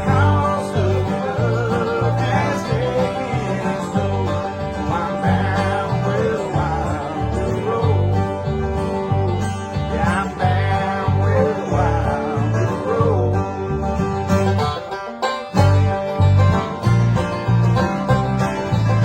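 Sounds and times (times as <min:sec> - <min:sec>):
bluegrass band playing: 0:00.0 - 0:19.0
upright bass notes: 0:00.0 - 0:19.0.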